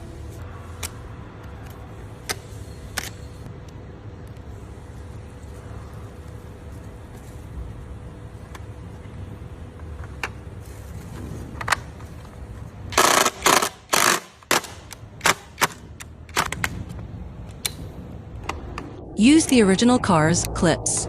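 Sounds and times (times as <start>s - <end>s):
steady low hum: 0.0s - 13.0s, 14.8s - 21.0s.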